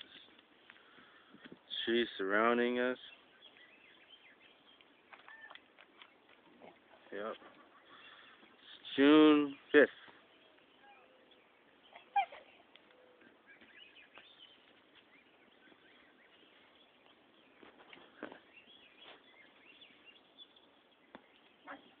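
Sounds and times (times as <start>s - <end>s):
bird chirps and calls: 2.8s - 6.3s, 7.4s - 22.0s.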